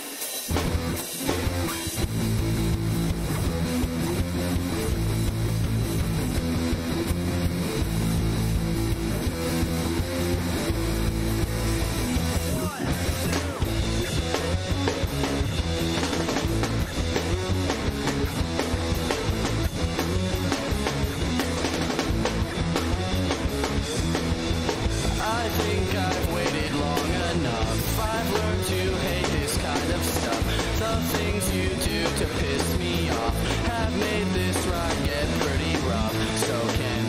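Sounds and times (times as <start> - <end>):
drum kit playing: 0.0 - 37.0
electric guitar: 0.0 - 37.0.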